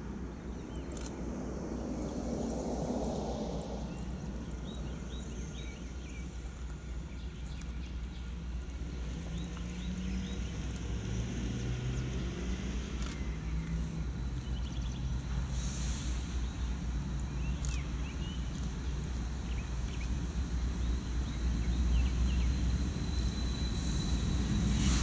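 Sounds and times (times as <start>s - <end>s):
distant diesel locomotives rumbling: 1.7s - 25.0s.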